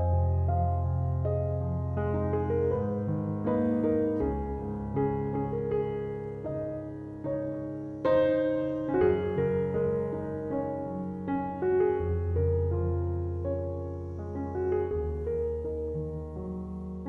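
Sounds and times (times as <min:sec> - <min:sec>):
calm piano music: 0:00.0 - 0:17.0.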